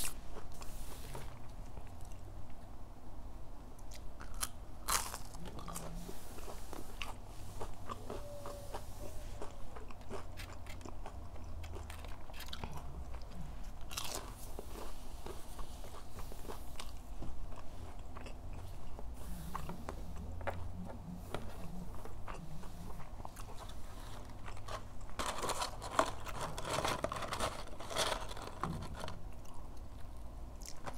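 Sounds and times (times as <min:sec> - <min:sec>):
crunchy chewing: 0:03.8 - 0:30.9.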